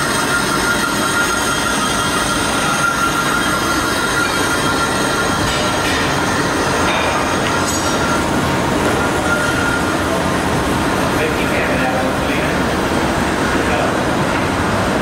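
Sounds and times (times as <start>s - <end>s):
machinery rumble: 0.0s - 15.0s
thin high whine: 0.0s - 15.0s.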